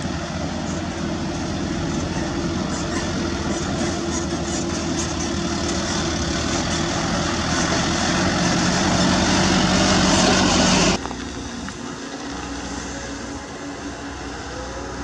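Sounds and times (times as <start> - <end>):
excavator engine digging: 0.0 - 13.9
truck driving by: 0.0 - 15.0.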